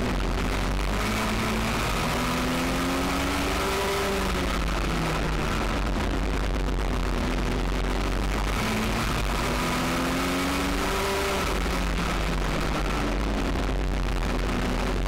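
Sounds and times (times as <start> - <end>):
motorcycle engine running at race speed: 0.0 - 15.0.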